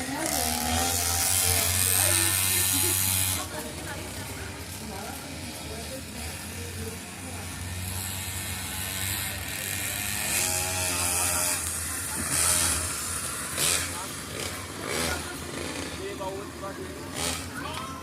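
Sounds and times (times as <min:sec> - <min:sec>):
racing motorbikes passing: 0:00.0 - 0:18.0
voices of onlookers: 0:00.0 - 0:18.0.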